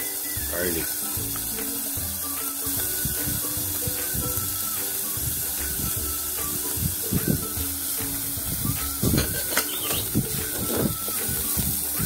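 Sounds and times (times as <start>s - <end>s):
background music: 0.0s - 12.0s
onion sizzling in hot oil: 0.0s - 12.0s.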